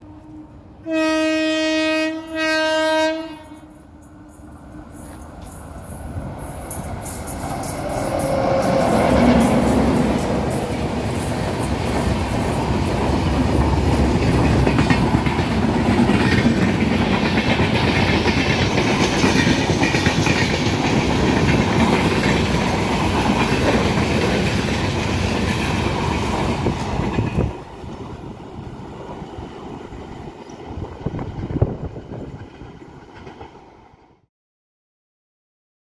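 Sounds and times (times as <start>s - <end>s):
train passing at speed: 0.0s - 34.3s.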